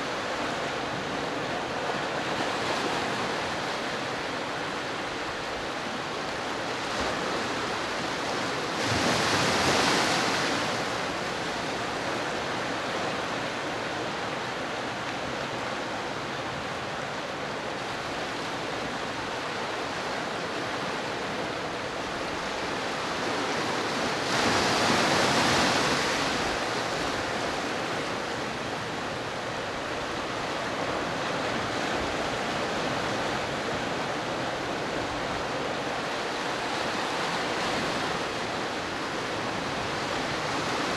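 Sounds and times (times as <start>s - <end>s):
surf rushing in rocky cove: 0.0s - 40.9s
waves surging: 0.0s - 40.9s.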